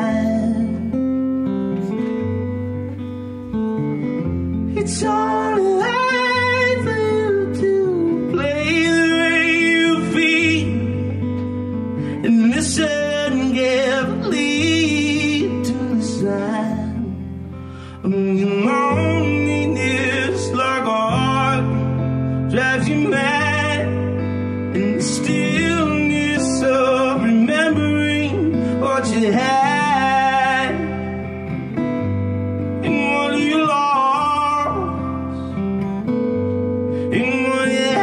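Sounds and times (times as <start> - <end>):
man singing: 0.0 - 1.9, 4.7 - 31.5, 32.6 - 35.6, 36.9 - 38.0
acoustic guitar strumming: 0.0 - 38.0.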